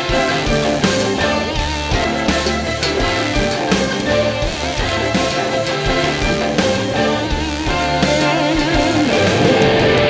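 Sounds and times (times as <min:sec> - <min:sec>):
drum beat: 0:00.0 - 0:10.0
electric bass: 0:00.0 - 0:10.0
electric guitar: 0:00.0 - 0:10.0.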